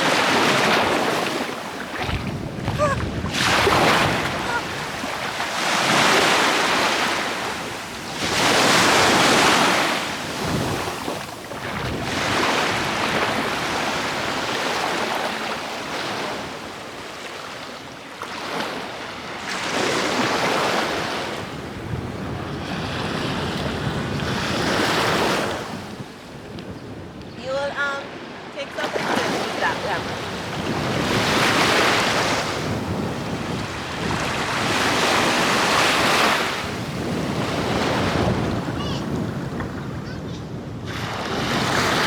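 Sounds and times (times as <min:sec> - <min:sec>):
sea waves breaking on shore: 0:00.0 - 0:42.0.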